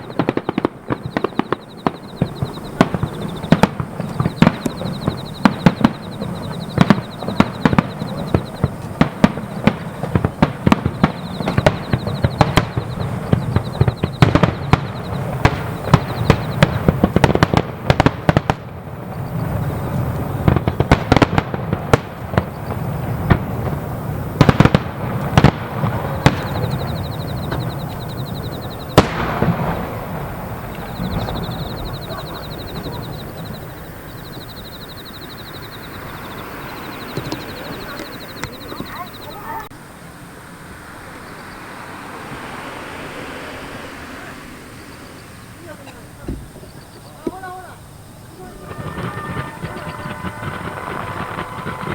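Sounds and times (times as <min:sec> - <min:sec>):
fireworks bursting and crackling: 0:00.0 - 0:51.9.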